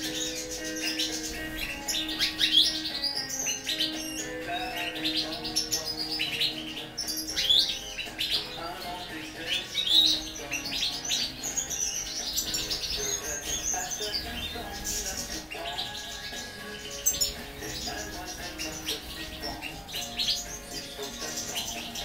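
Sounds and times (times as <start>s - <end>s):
goldfinches twittering: 0.0s - 22.0s.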